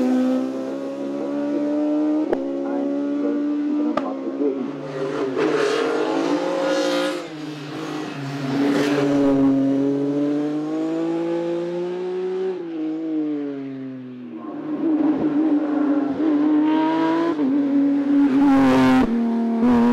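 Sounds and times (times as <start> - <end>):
race car engine at full throttle: 0.0 - 19.9.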